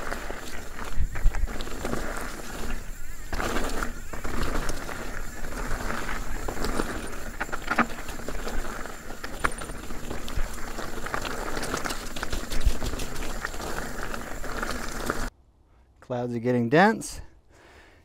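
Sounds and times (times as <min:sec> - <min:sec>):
bike clicks and rattles: 0:00.0 - 0:15.3
bike tyres crunching over dirt: 0:00.0 - 0:15.3.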